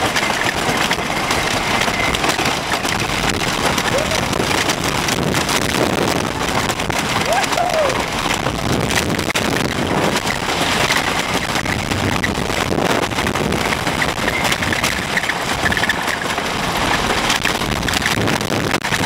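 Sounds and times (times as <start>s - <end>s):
wheels clattering on wooden track: 0.0s - 19.0s
wooden roller coaster rumbling: 0.0s - 19.0s.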